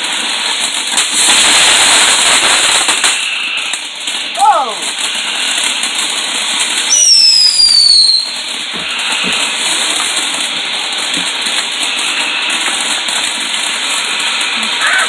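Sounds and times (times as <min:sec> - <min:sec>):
crackling hiss: 0:00.0 - 0:15.0
firework whistling: 0:00.0 - 0:15.0.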